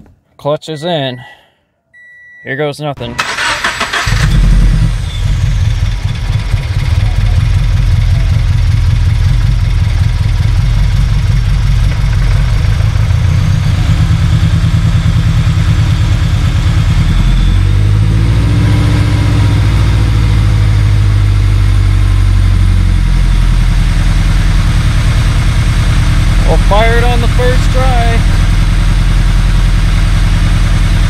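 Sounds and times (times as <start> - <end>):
car engine idling unevenly: 3.2 - 17.8, 19.0 - 31.0.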